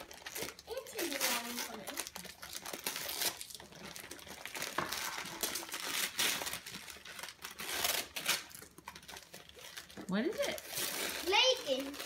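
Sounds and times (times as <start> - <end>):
wrapping paper tearing and crinkling: 0.0 - 12.0.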